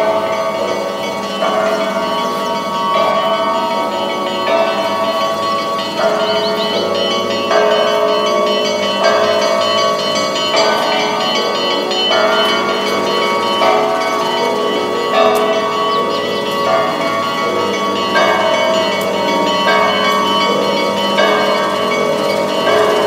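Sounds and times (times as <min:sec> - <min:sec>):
church bells ringing: 0:00.0 - 0:23.0
smaller bells: 0:00.0 - 0:23.0.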